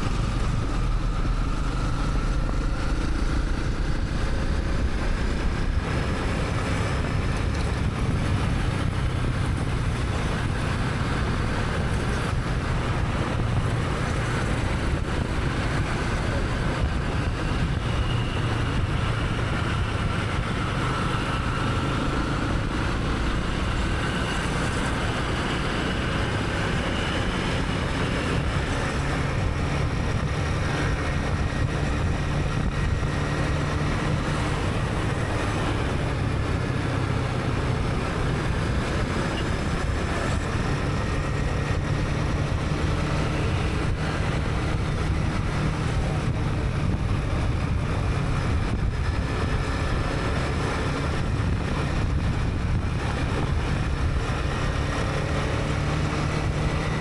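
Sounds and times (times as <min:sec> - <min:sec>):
motorcycle engine running: 0:00.0 - 0:57.0
surrounding traffic: 0:00.0 - 0:57.0
wind rush: 0:00.0 - 0:57.0.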